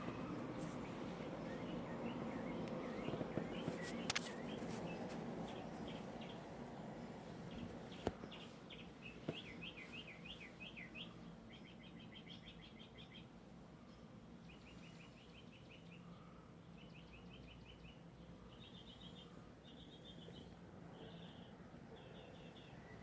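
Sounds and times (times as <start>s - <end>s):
bird chirps and trills: 0.0s - 6.5s, 7.5s - 13.3s, 13.9s - 23.0s
faint low hum: 0.0s - 23.0s.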